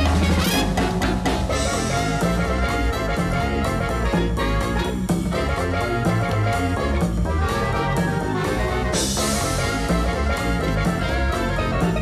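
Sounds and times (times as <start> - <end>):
upbeat swing jazz with brass: 0.0 - 12.0.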